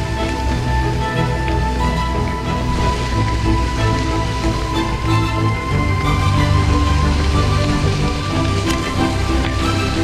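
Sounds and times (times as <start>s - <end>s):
background music held notes: 0.0s - 10.0s.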